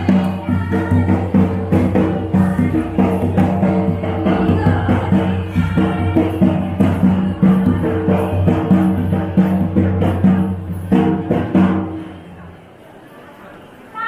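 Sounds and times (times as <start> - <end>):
steady drum beat: 0.0 - 12.1
jingling percussion: 0.0 - 12.2.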